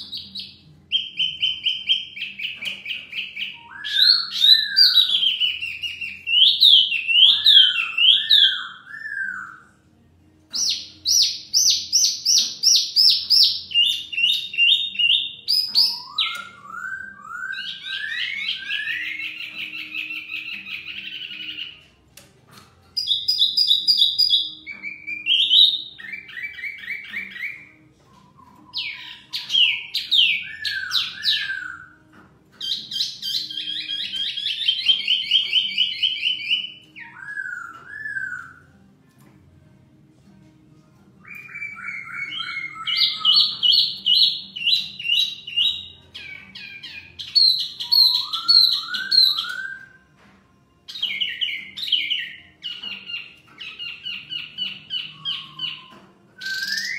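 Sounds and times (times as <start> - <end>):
birds whistling song: 0.0 - 9.9, 10.5 - 22.0, 22.9 - 38.8, 41.2 - 50.2, 50.8 - 56.9.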